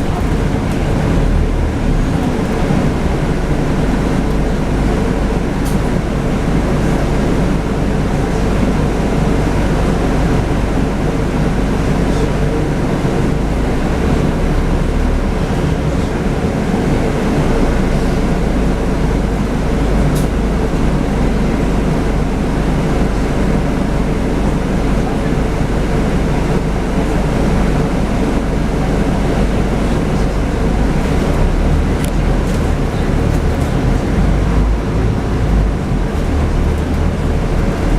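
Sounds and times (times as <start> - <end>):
bus diesel engine running: 0.0 - 37.9
road noise rumble: 0.0 - 37.9.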